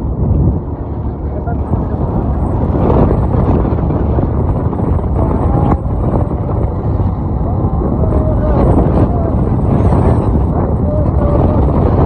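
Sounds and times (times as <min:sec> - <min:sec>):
motorcycle engine and road rumble: 0:00.0 - 0:12.0
wind rushing over microphone: 0:00.0 - 0:12.0.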